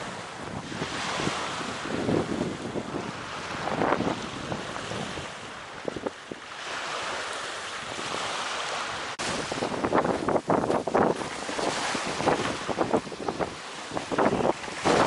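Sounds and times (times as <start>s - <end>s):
waves washing onto beach: 0.0s - 15.0s
wind buffeting microphone: 0.0s - 15.0s.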